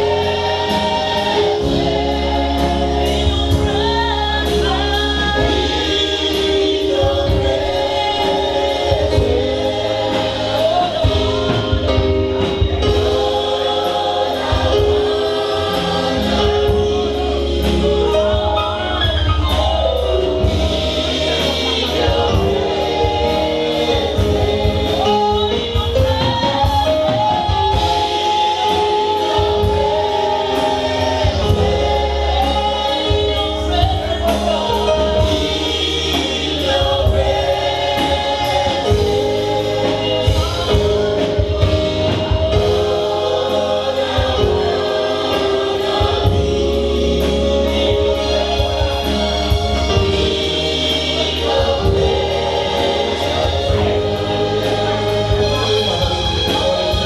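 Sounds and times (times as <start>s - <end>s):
deep steady bass: 0.0s - 57.0s
gospel choir singing in harmony: 0.0s - 57.0s.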